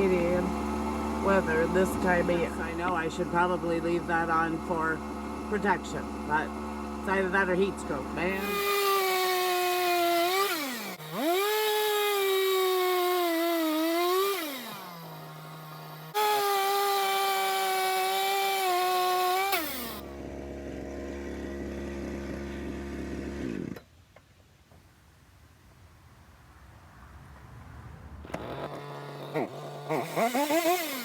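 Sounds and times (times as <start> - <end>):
chainsaw idling: 0.0 - 23.8, 28.3 - 31.0
chainsaw cutting logs: 0.0 - 23.9, 28.2 - 31.0.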